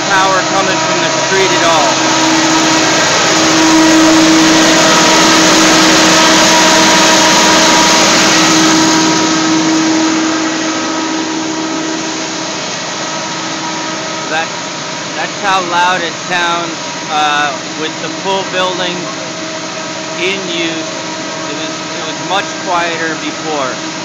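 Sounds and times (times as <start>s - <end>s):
generator engine running: 0.0s - 24.0s
steady hum: 0.0s - 24.0s.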